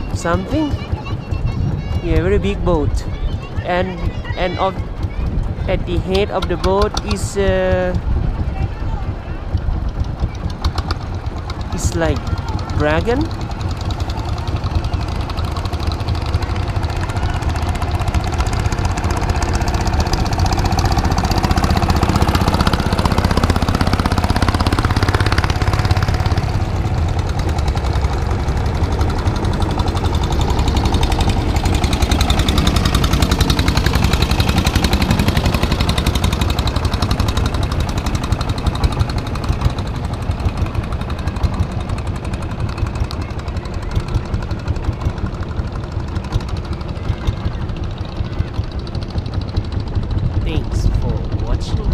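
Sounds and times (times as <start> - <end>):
boat engine knocking: 0.0 - 51.9.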